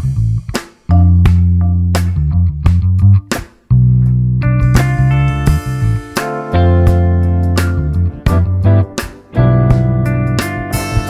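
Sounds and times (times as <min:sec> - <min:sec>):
sustained low bass notes: 0:00.0 - 0:10.6
plucked guitar notes: 0:00.9 - 0:11.0.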